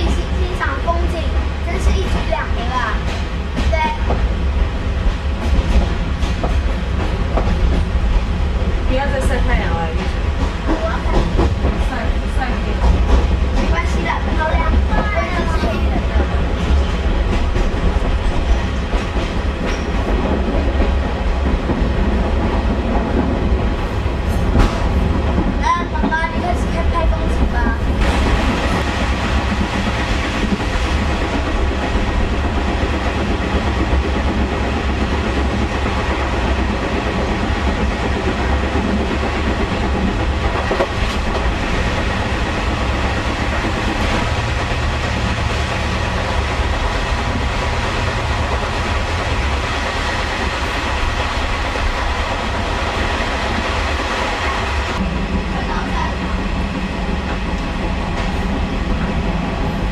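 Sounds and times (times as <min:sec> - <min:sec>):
rail clatter: 0:00.0 - 0:59.9
train rumbling along track: 0:00.0 - 0:59.9.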